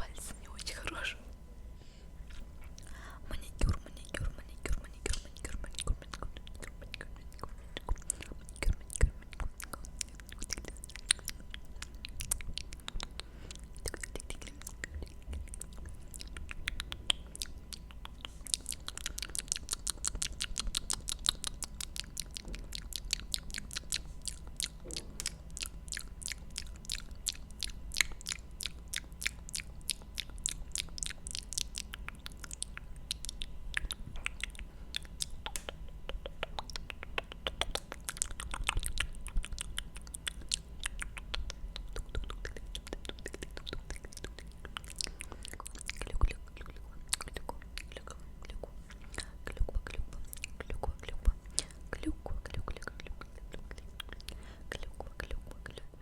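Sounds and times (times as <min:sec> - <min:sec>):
wet lip and tongue clicks: 0:02.3 - 0:56.0.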